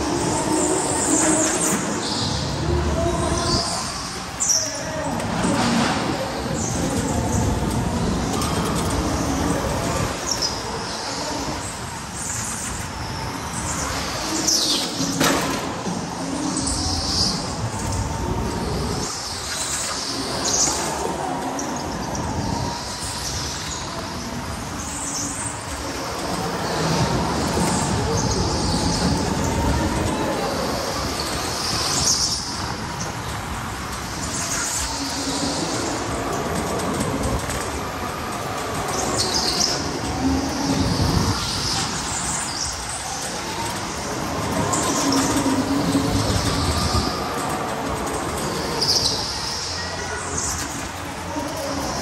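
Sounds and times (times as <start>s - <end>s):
kart rumbling over floor: 0.0s - 52.0s.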